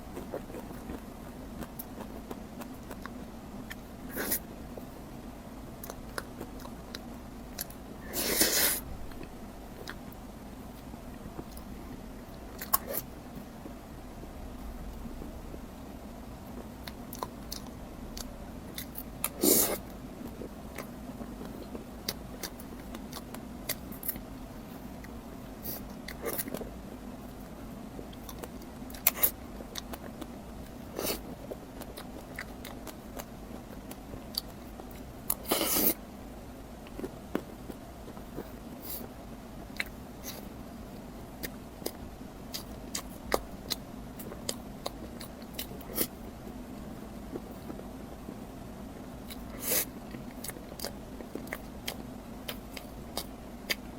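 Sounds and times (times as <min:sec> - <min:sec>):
person chewing crunchy bread: 0:00.0 - 0:13.8, 0:16.4 - 0:53.9
steady low hum: 0:00.0 - 0:53.9.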